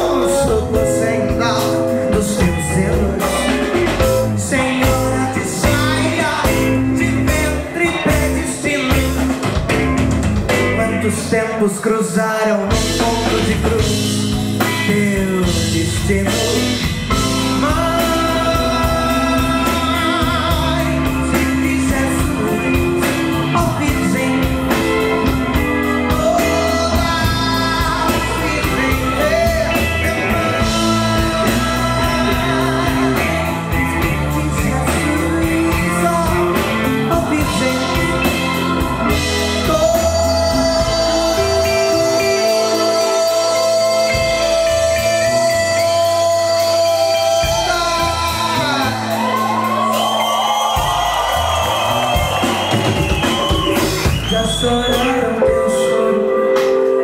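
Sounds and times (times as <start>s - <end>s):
person singing: 0.0s - 50.2s, 50.8s - 57.0s
live band playing: 0.0s - 57.0s.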